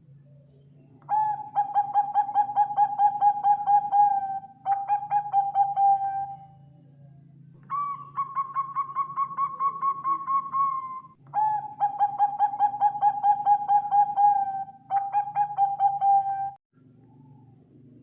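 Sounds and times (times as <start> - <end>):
faint low hum: 0.0 - 18.0
dove cooing: 1.0 - 6.7, 7.6 - 16.6.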